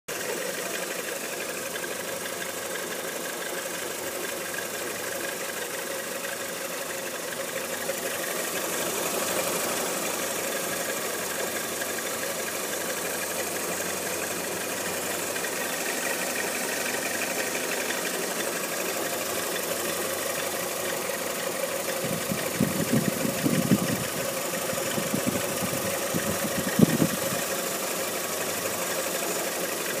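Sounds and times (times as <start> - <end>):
car engine idling with knock: 0.1 - 30.0.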